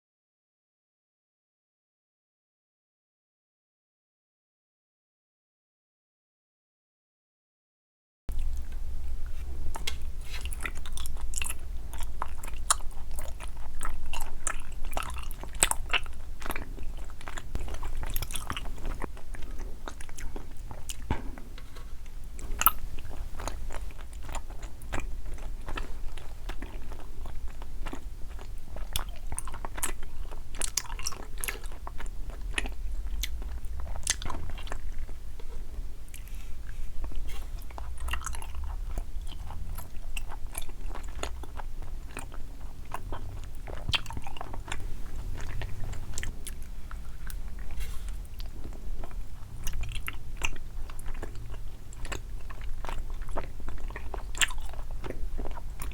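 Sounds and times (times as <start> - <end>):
crunchy chewing of candy: 8.3 - 55.9.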